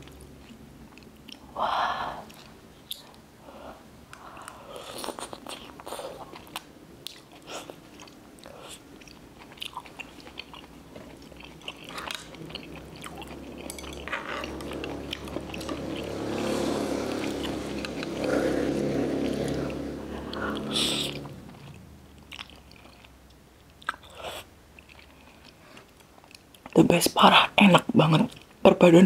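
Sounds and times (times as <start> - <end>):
person chewing food: 0.0 - 1.6, 2.2 - 3.2, 4.0 - 26.8.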